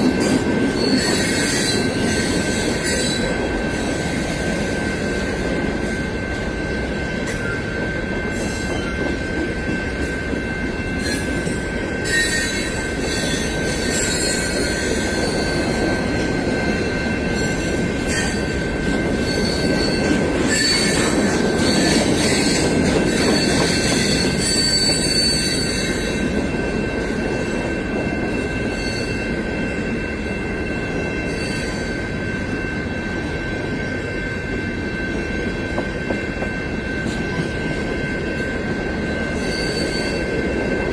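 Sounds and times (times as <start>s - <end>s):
freight train cars rumbling: 0.0s - 40.9s
train wheels squealing: 0.0s - 40.9s.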